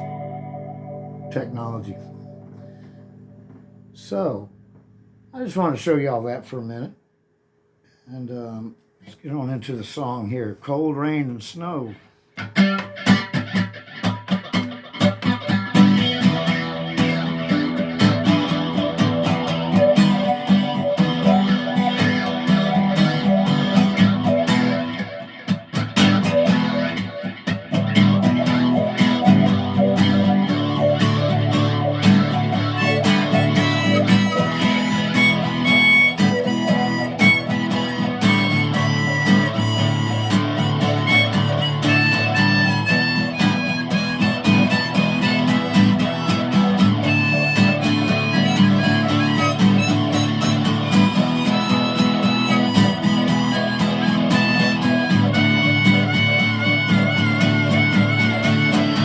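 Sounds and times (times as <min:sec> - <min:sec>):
electric guitar playing: 0:00.0 - 0:05.6, 0:12.4 - 0:59.0.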